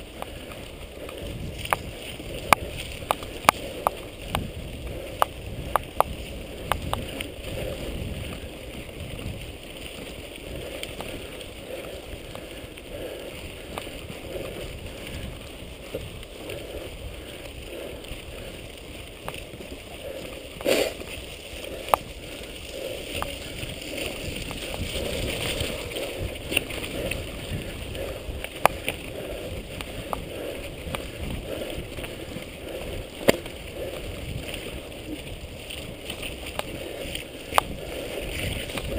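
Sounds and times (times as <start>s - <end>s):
bike rattling over bumps: 0.0s - 38.9s
bike tyres rumbling on dirt: 0.0s - 38.9s
wind on microphone: 0.0s - 38.9s.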